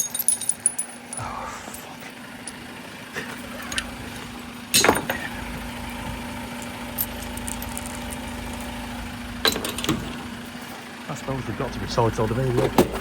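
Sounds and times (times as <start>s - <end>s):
vehicle engine idling: 0.1s - 13.0s.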